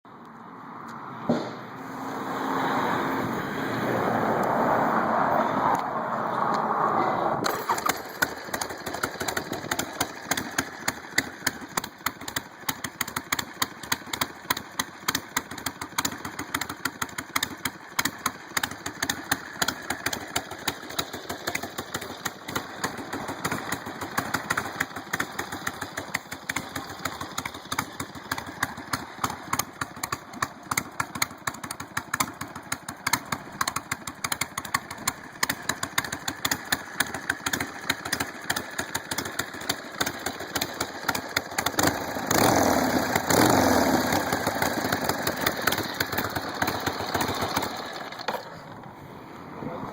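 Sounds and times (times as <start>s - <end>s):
motorcycle engine idling: 7.4s - 49.0s.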